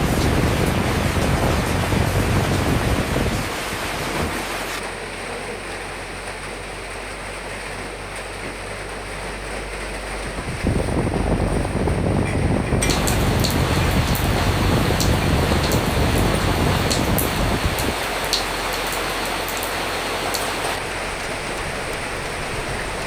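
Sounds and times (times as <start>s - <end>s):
rain and wind against windows: 0.0s - 23.0s.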